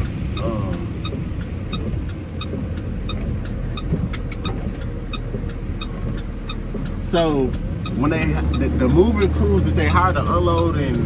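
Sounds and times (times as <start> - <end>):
light regular ticking: 0.0 - 11.0
truck engine and road rumble: 0.0 - 11.0.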